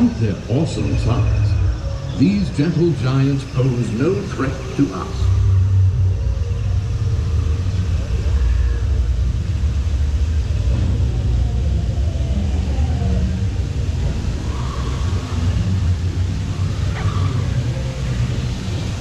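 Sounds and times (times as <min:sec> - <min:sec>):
faint higher sounds: 0:00.0 - 0:19.0
low rumble: 0:00.0 - 0:19.0.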